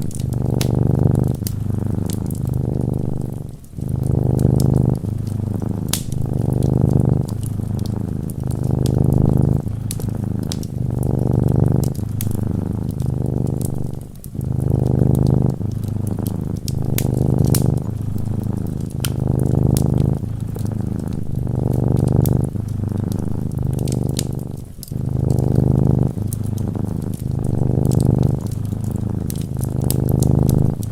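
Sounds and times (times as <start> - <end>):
cat purring: 0.0 - 30.9
fire crackling: 0.0 - 30.9.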